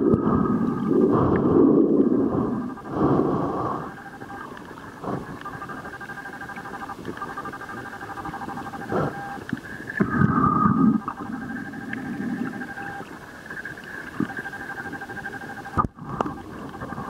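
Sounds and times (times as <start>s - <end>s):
whine of pulsing tones: 0.0s - 17.0s.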